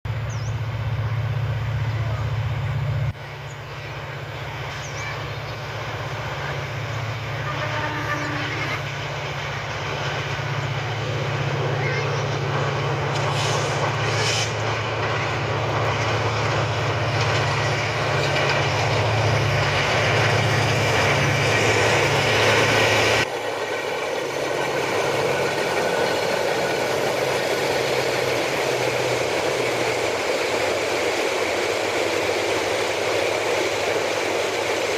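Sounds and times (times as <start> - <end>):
diesel locomotive engine drone: 0.0 - 34.9
train wheel and rail noise: 0.0 - 34.9.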